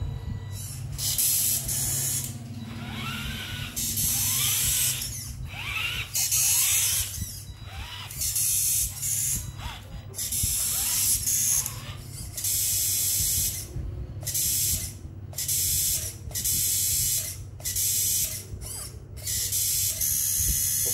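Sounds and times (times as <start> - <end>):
servo buzzing: 0.0 - 20.9
steady low hum: 0.0 - 20.9.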